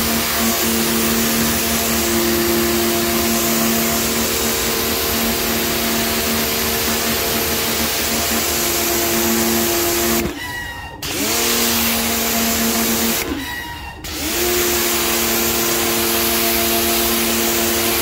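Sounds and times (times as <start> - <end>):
water jet spraying on tiles: 0.0 - 10.3, 11.1 - 13.4, 14.1 - 18.0
pressure washer pump humming: 0.0 - 18.0.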